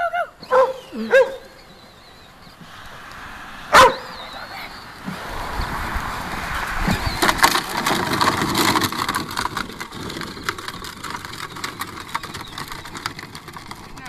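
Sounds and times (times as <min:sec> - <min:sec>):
gravel crunching under plastic wheels: 0:00.0 - 0:14.0.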